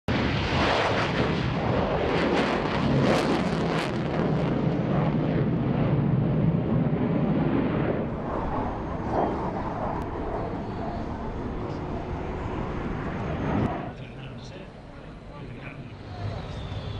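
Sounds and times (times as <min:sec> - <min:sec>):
jet taking off: 0:00.1 - 0:16.9.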